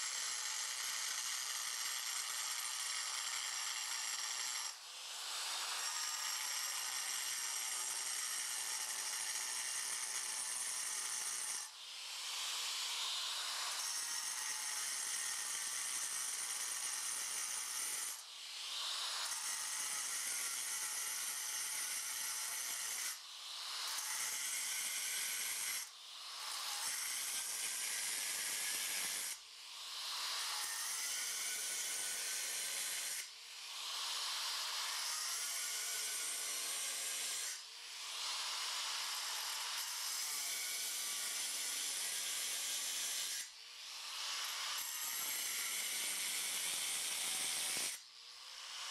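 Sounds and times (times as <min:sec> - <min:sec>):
angle grinder cutting stone: 0:00.0 - 0:48.9.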